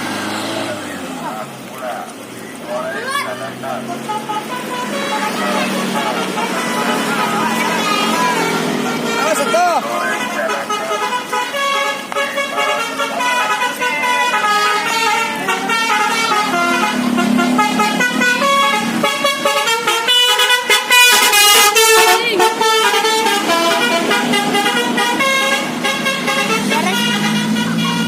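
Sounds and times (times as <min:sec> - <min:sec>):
musical bus horn melody: 0:03.1 - 0:28.0.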